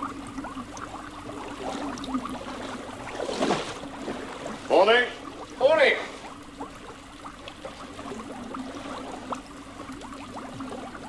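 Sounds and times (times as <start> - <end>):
aquarium water bubbling: 0.0 - 11.0
steady low hum: 0.0 - 11.0.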